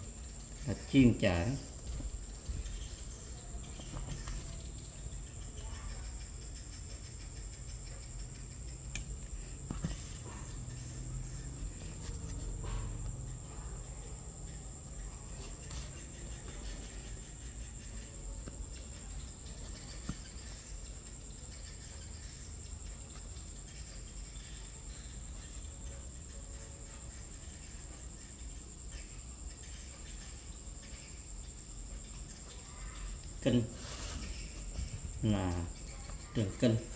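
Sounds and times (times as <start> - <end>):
high-pitched insect trill: 0.0 - 36.9.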